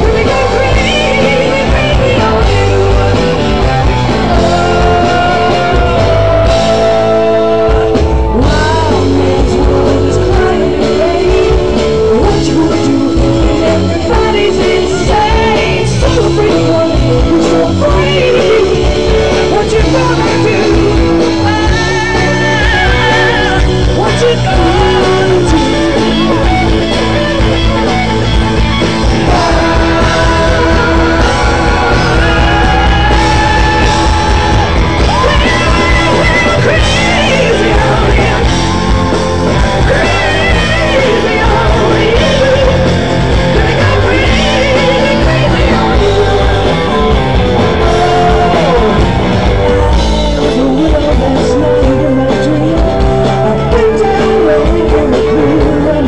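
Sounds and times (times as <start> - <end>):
woman singing: 0.0 - 3.4, 4.3 - 26.5, 29.2 - 38.7, 39.8 - 47.2, 50.2 - 56.0
bass: 0.0 - 56.0
guitars: 0.0 - 56.0
steady drum beat: 0.0 - 56.0.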